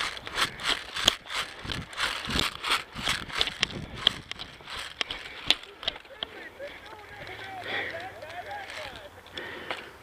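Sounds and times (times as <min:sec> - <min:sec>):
footsteps crunching dry leaves: 0:00.0 - 0:09.6
sharp clicks: 0:00.0 - 0:09.9.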